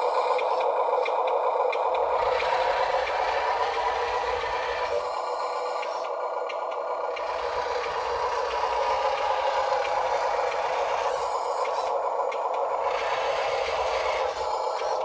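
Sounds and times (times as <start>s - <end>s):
simulated truck engine through small speaker: 0.0s - 15.0s.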